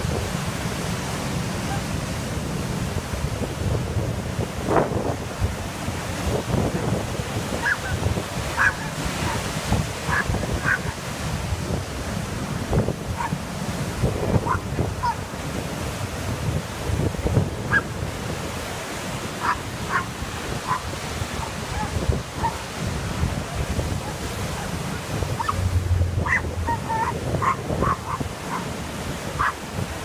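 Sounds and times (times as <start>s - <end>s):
ocean waves breaking on rocks: 0.0s - 30.0s
wind buffeting microphone: 0.0s - 30.0s.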